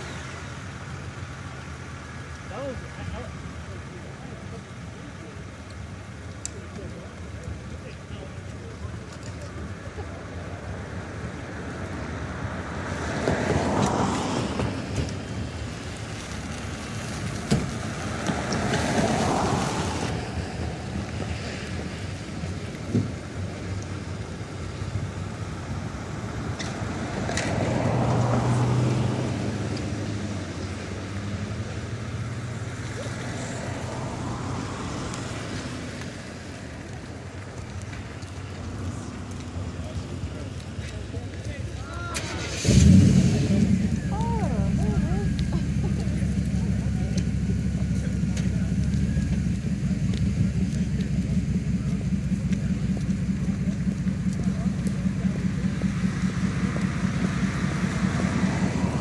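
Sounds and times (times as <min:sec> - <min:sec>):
distant rocket engine rumble: 0:00.0 - 0:59.0
sharp crackles: 0:00.0 - 0:59.0.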